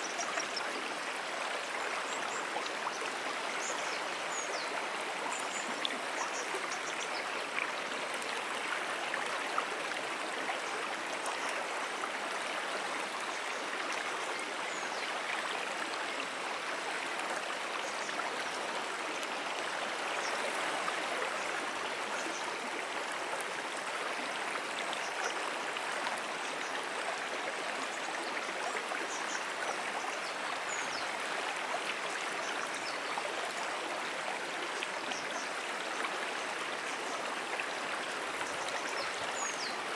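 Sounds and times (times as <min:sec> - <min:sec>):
brook water running: 0:00.0 - 0:39.9.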